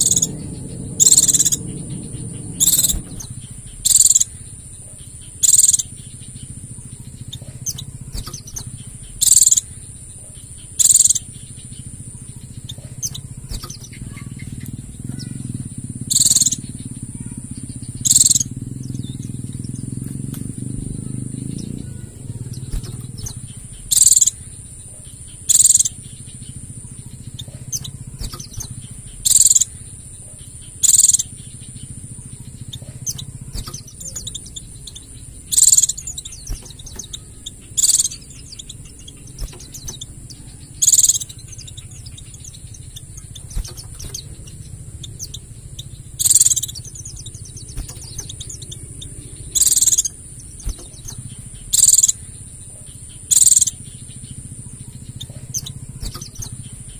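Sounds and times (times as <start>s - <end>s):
bird chattering twitter: 0.0s - 56.9s
high-pitched bird calls: 0.0s - 56.9s.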